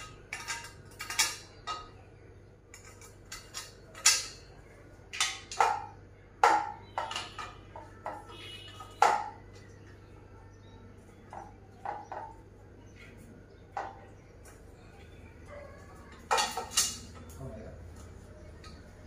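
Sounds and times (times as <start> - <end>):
metal tubes clinking and knocking: 0.0 - 2.1, 2.7 - 10.0, 11.2 - 19.0.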